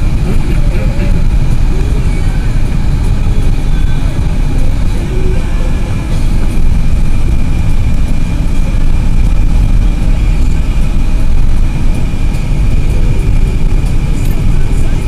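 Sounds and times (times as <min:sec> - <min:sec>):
car engine and road noise: 0:00.0 - 0:15.0
thin high whine: 0:00.0 - 0:15.0.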